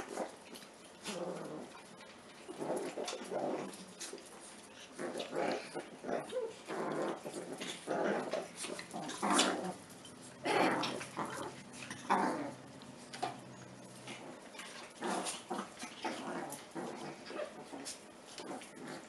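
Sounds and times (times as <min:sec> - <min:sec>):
puppies growling and yipping: 0:00.0 - 0:19.0.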